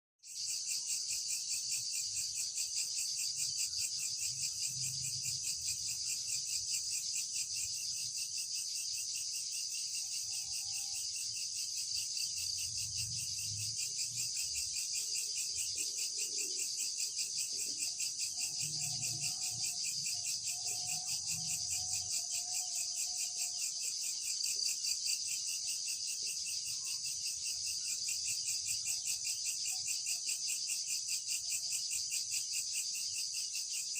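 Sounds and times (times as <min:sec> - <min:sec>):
crickets chirping: 0:00.2 - 0:33.9.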